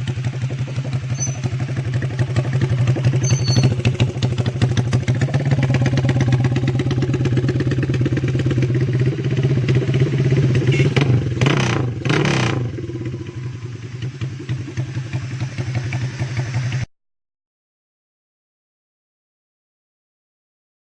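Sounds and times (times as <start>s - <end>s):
motorcycle engine without muffler: 0.0s - 16.9s.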